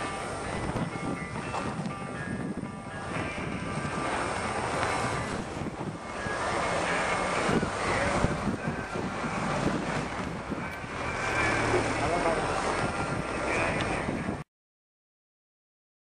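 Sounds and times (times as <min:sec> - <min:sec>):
engine running: 0:00.0 - 0:14.4.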